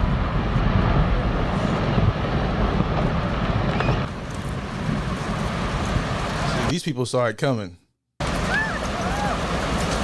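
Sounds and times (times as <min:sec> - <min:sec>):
glacier ice collapsing roar: 0:00.0 - 0:06.7, 0:08.2 - 0:10.0.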